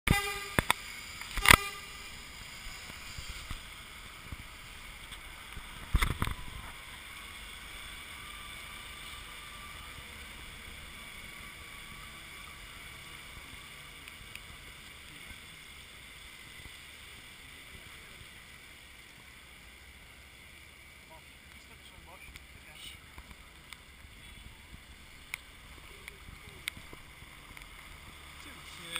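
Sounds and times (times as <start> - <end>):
outdoor background hiss: 0.1 - 28.9.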